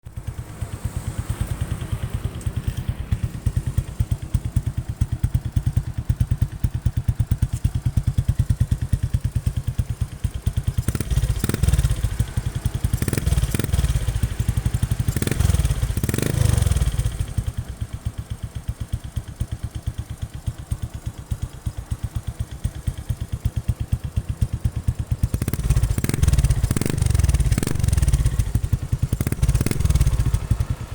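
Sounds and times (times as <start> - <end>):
motorcycle exhaust idling: 0.0 - 30.9
motorcycle throttle blips: 0.2 - 19.3, 21.6 - 30.9.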